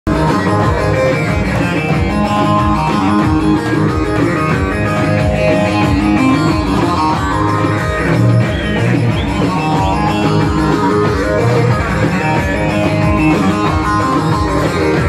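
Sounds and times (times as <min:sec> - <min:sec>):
live band dance music: 0:00.1 - 0:15.0
plucked string instrument: 0:00.1 - 0:15.0.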